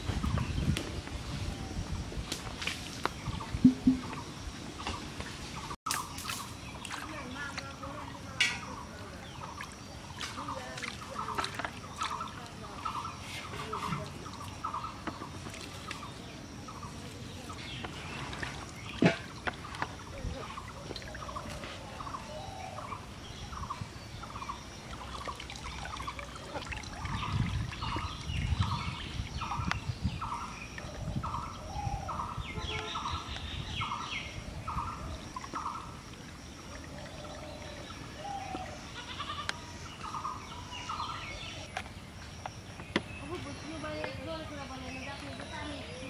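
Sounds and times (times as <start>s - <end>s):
birds chirping: 2.6s - 46.0s
bird calling: 3.3s - 36.0s, 36.6s - 46.0s.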